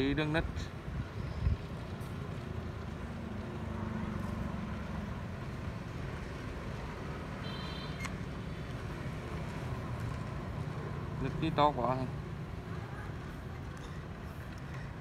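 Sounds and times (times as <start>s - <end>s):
low rumble of outdoor background noise: 0.0s - 15.0s.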